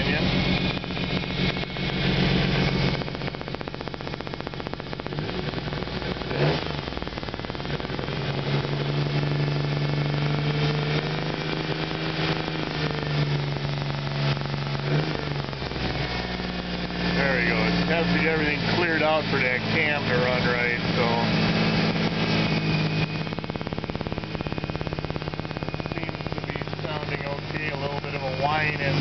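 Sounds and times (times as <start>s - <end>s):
car engine running: 0.0s - 29.0s
valve lifters ticking: 0.0s - 29.0s.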